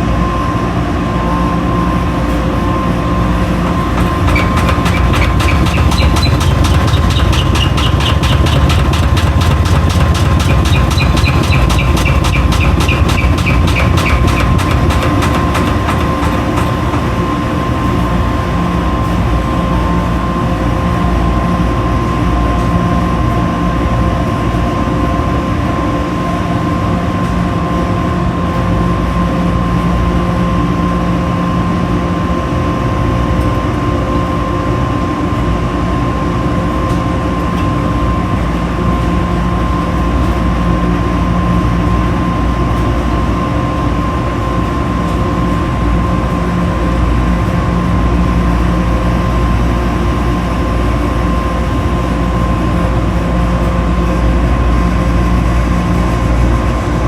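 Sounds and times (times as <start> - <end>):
washing machines running: 0.0 - 57.0.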